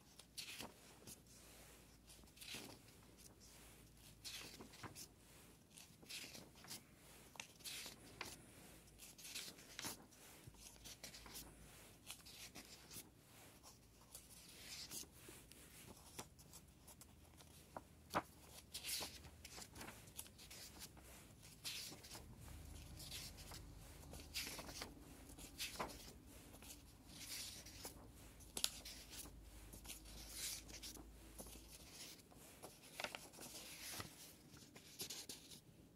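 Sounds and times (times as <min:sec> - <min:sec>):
paper pages rustling: 0:00.1 - 0:35.6.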